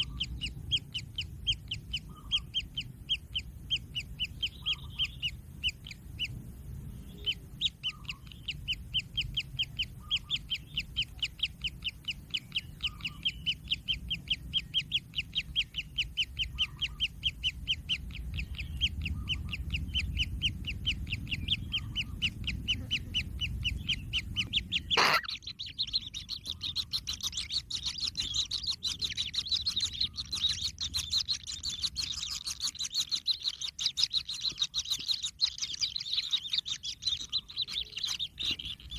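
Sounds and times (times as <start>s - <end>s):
bird chicks begging calls: 0.0s - 38.9s.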